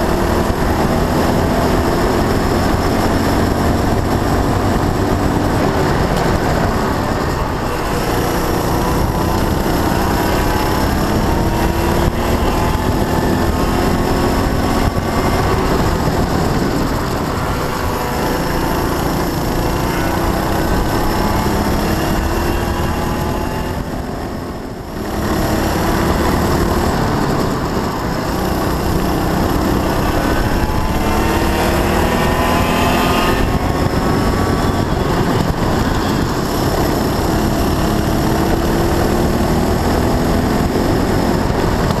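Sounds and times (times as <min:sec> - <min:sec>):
kart engine at racing speed: 0:00.0 - 0:42.0.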